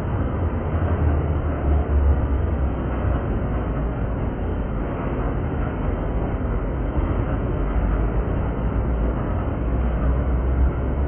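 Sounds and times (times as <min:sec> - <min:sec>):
train rumbling across bridge: 0:00.0 - 0:11.0.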